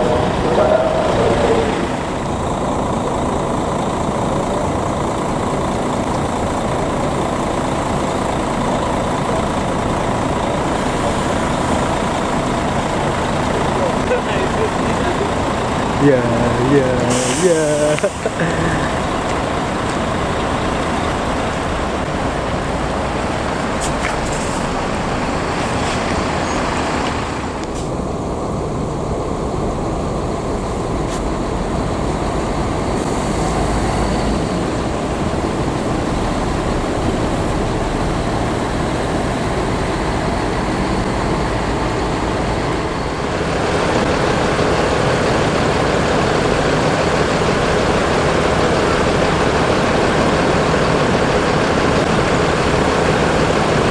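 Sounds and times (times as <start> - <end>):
heavy traffic rumble: 0.0 - 53.9.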